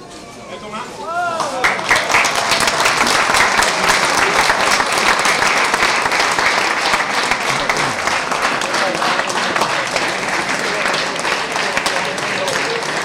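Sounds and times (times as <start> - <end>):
large crowd applauding: 1.3 - 13.0.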